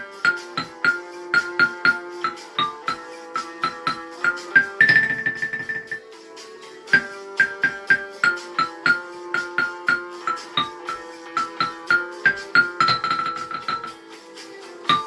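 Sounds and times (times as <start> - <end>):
tuned percussion melody: 0.0 - 15.0.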